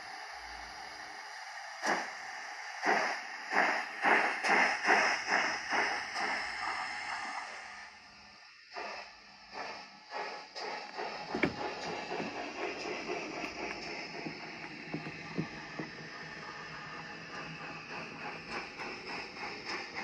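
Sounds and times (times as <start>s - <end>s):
model locomotive steam hiss: 0.0s - 20.0s
steam locomotive exhaust chuffs: 0.0s - 20.0s.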